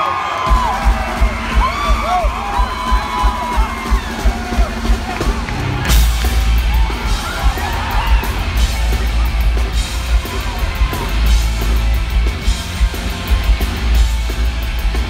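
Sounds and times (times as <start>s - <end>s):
crowd yelling and whooping: 0.0s - 14.0s
punk rock band playing live: 0.4s - 15.0s
kick drum and bass: 0.5s - 15.0s.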